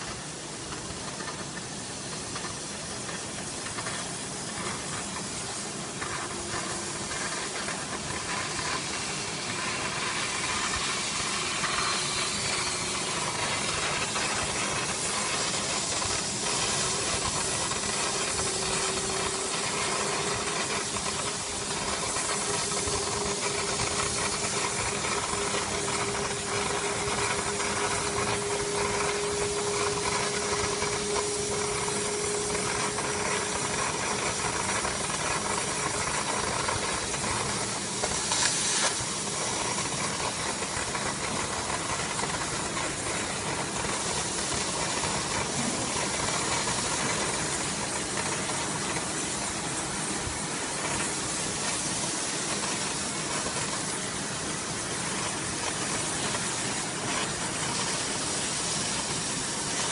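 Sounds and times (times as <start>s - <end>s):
cutting torch hissing: 0.0s - 59.9s.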